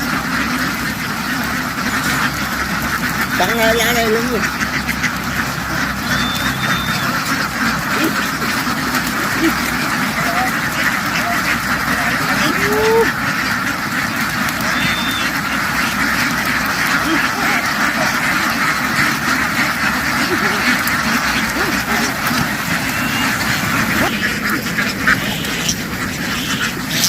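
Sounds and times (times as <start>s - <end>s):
flock of ducks quacking: 0.0s - 27.0s.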